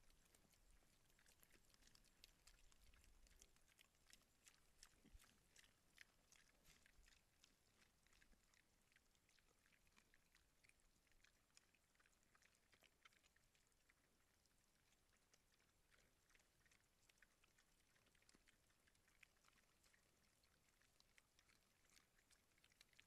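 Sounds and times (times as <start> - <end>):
faint clicking and crackling: 0.0 - 23.0.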